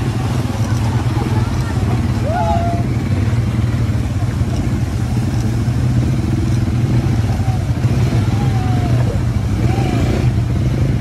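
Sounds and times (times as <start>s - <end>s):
quad bike engines droning: 0.0s - 11.0s.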